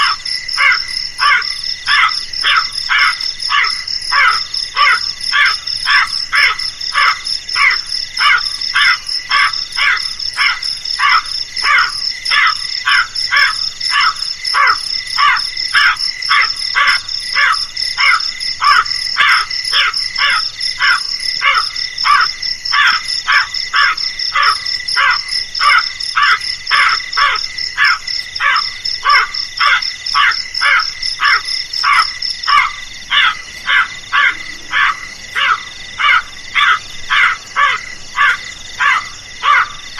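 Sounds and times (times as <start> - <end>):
crows cawing: 0.0 - 39.9.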